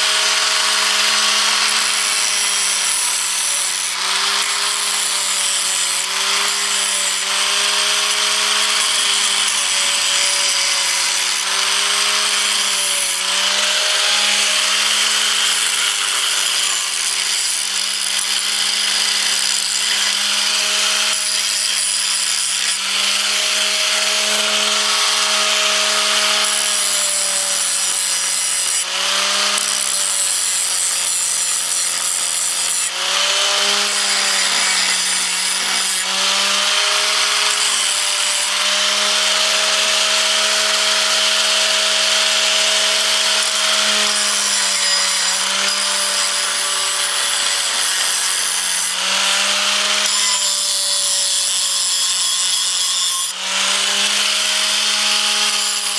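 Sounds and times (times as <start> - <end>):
electric grinder grinding metal: 0.0 - 55.9.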